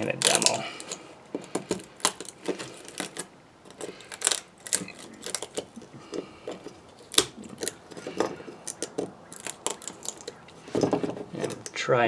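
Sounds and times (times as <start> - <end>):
nippers snipping plastic: 0.0 - 11.8.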